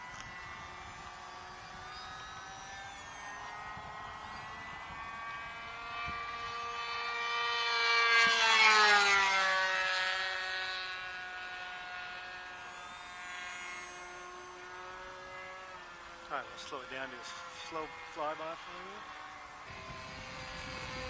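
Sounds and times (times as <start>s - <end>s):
model airplane engine passing: 0.0s - 21.0s.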